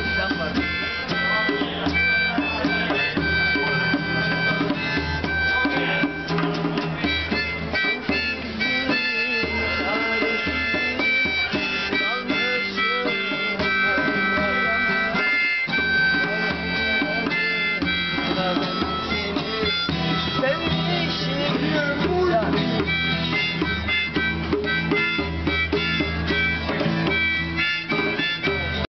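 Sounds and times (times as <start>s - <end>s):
hand drum beat: 0.0s - 28.9s
harmonica chords: 0.0s - 28.9s
strummed acoustic guitar: 0.0s - 28.9s.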